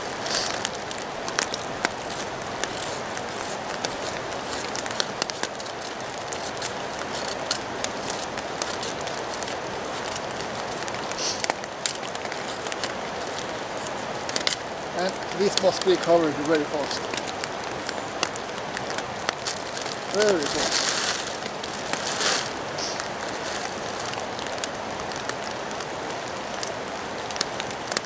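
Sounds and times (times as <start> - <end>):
raindrops ticking on surfaces: 0.0 - 28.0
steady rain falling: 0.0 - 28.0.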